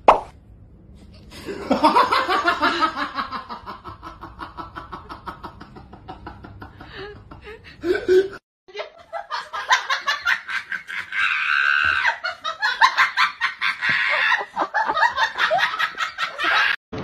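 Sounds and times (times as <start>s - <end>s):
person laughing hard: 1.4s - 16.8s.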